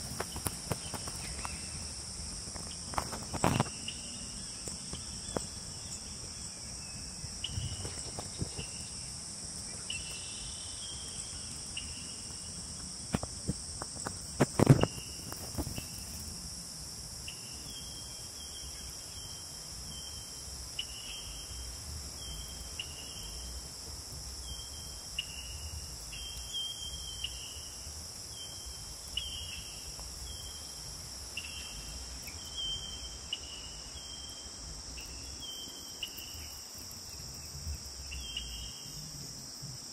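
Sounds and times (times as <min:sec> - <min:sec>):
short insect chirps: 0:00.0 - 0:23.7, 0:24.4 - 0:39.9
insects droning in grass: 0:00.0 - 0:39.9.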